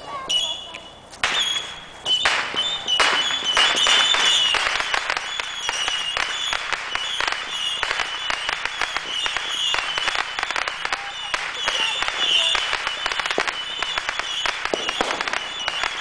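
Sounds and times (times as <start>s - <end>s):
fireworks crackling: 0.0s - 16.0s
fireworks whistling: 0.2s - 16.0s.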